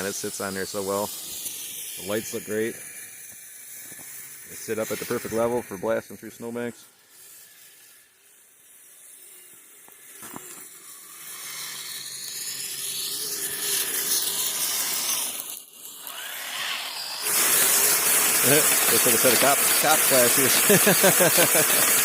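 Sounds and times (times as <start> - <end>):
rc vehicle motor whining: 0.0 - 22.0.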